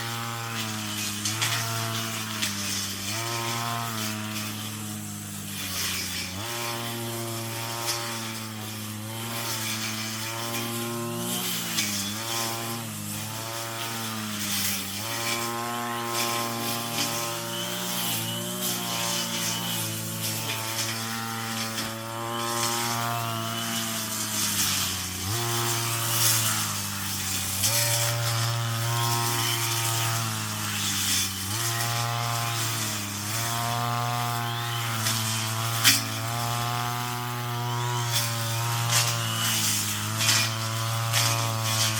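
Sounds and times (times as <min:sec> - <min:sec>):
brush cutter engine revving: 0:00.0 - 0:41.9
rattling hiss of cut weeds: 0:00.0 - 0:41.9.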